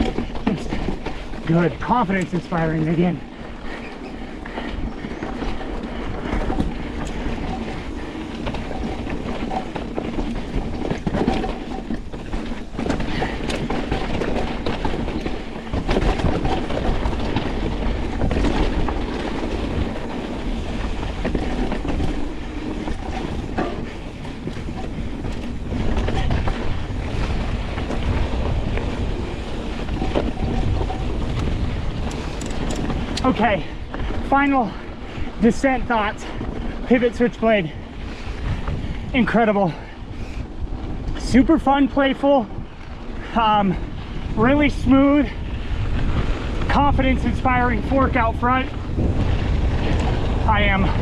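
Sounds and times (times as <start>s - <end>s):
bike knocking and rattling: 0.0s - 51.0s
bike tyres rumbling over dirt: 0.0s - 51.0s
wind buffeting microphone: 0.0s - 51.0s.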